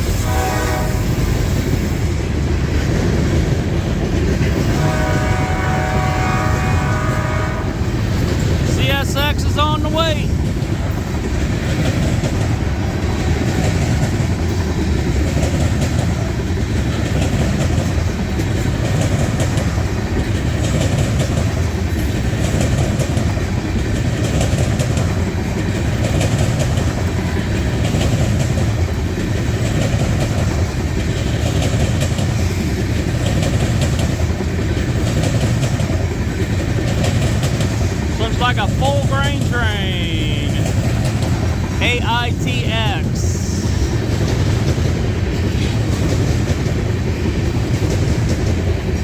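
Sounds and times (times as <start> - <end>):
freight train rolling on rails: 0.0 - 49.0.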